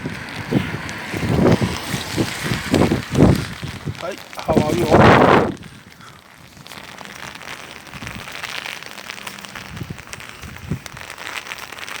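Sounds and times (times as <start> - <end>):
wind gusts on microphone: 0.0 - 11.2
rain on umbrella: 0.0 - 12.0.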